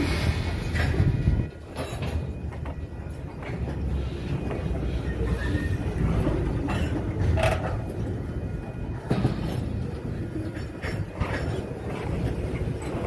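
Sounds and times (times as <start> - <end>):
train cars clanking: 0.0 - 13.0
train wheels rumbling on rails: 0.0 - 13.0.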